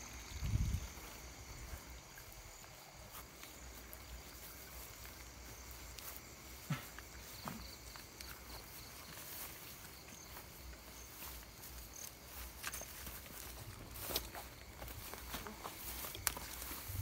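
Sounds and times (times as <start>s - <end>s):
night insects trilling: 0.0s - 17.0s.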